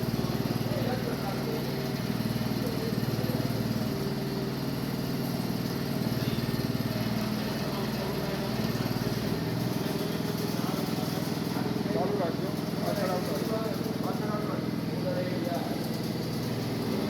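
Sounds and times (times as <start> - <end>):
petrol engine running steadily: 0.0 - 17.0.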